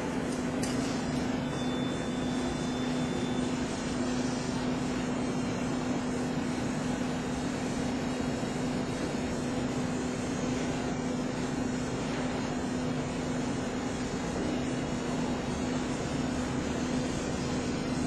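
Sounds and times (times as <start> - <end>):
machinery and ventilation drone: 0.0 - 18.0.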